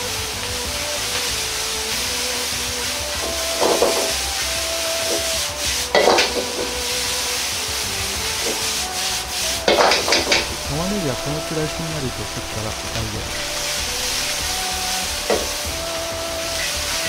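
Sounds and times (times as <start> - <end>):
food frying hiss: 0.0 - 17.0
gas burner: 0.0 - 17.0
utensil scraping wok: 0.0 - 17.0.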